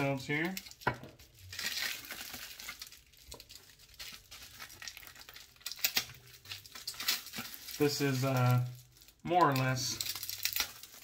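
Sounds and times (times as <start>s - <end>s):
paper and packaging crinkling: 0.0s - 11.0s.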